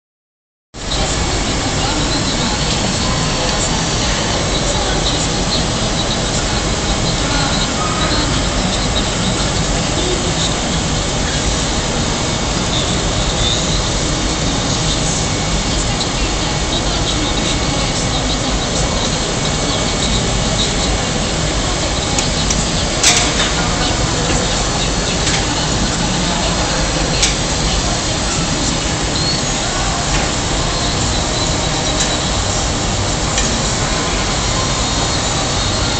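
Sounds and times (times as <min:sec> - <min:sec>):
gas furnace roaring: 0:00.8 - 0:35.9.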